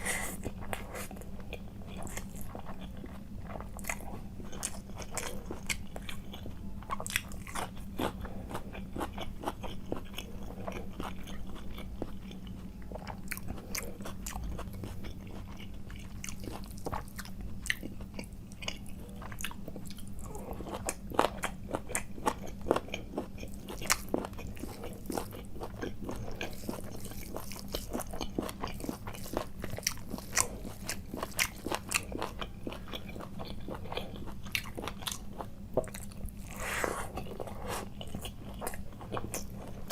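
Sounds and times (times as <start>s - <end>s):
person chewing food: 0.0s - 39.9s
steady low hum: 0.0s - 39.9s.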